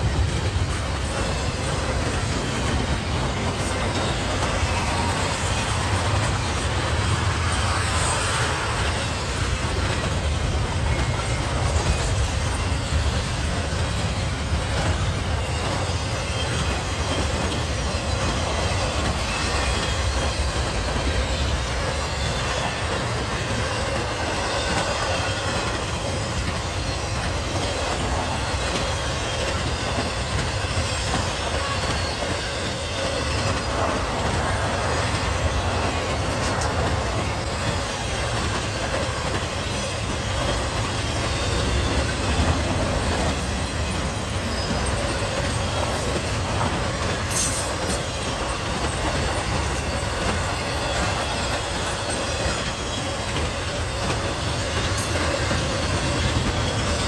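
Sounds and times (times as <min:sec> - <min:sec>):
freight train rolling past: 0:00.0 - 0:57.0
steel wheels rattling on rails: 0:00.0 - 0:57.0.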